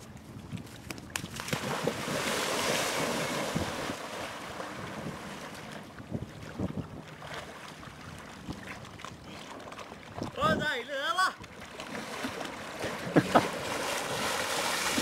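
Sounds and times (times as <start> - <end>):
water splashing: 0.8 - 15.0.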